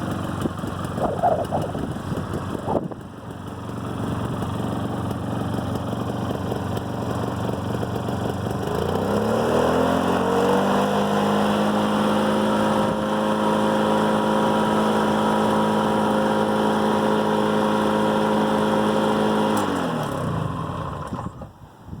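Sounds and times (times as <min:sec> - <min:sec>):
two-stroke engine running: 0:00.0 - 0:21.6.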